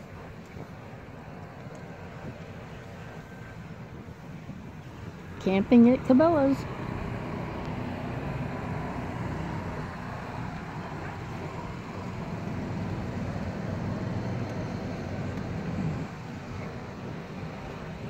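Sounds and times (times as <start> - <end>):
car interior road drone: 0.0 - 18.0.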